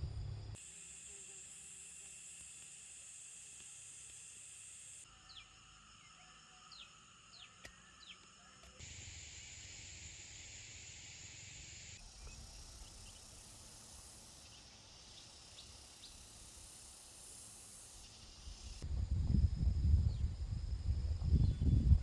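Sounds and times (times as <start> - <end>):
high insect drone: 0.1 - 22.0.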